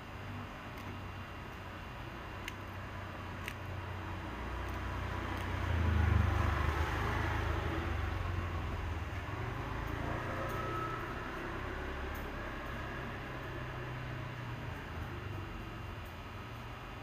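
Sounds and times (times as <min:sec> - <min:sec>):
low background rumble with hiss: 0:00.0 - 0:17.0.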